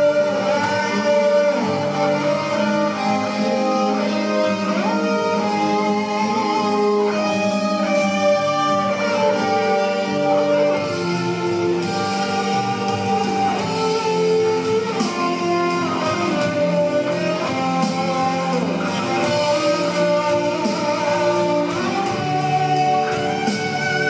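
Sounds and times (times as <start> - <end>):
instrumental pop music: 0.0 - 24.0.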